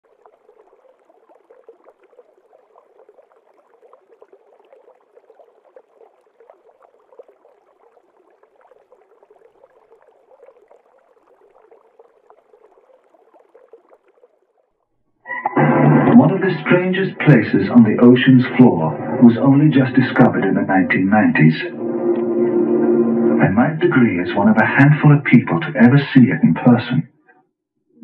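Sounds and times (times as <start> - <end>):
water gurgling: 0.0 - 27.2.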